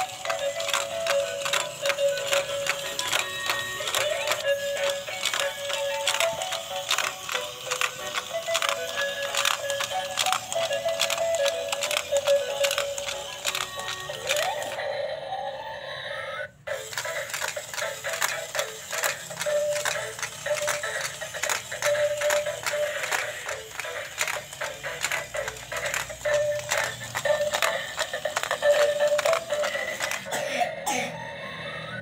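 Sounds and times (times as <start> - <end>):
fast clicking beat: 0.0 - 14.8, 16.7 - 30.3
toy playing tinny electronic tune: 0.0 - 30.3.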